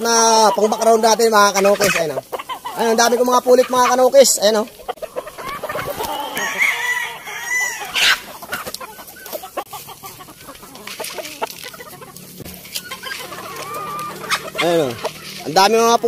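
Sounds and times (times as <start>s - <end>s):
chickens clucking and squawking: 0.0s - 16.0s.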